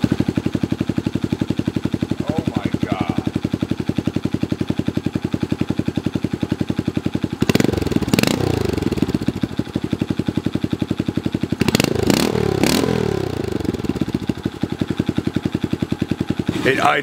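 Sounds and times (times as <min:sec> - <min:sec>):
engine throttle blips: 0:00.0 - 0:10.6, 0:11.4 - 0:17.0
motorcycle engine idling: 0:00.0 - 0:17.0.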